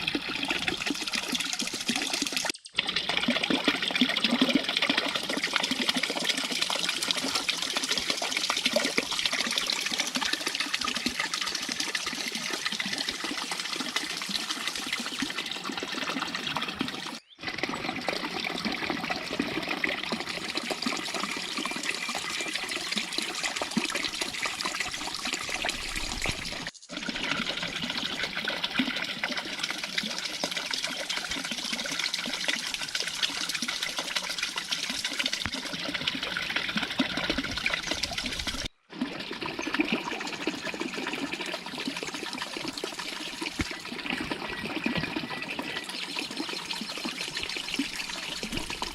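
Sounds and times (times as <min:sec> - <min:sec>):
water running and splashing: 0:00.0 - 0:38.7, 0:39.6 - 0:48.9.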